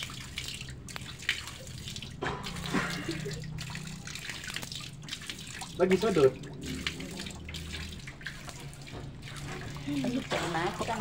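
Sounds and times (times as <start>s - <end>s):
pond water splashing and trickling: 0.0s - 11.0s
short splashes: 0.0s - 11.0s.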